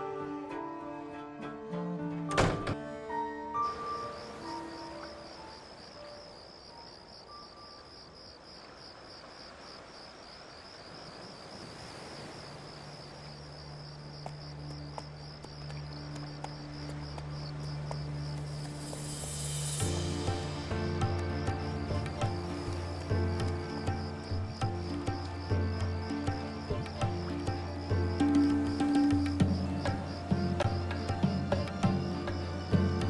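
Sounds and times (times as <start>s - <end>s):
soft music: 0.0s - 8.3s, 12.9s - 33.0s
crickets chirping: 2.5s - 33.0s.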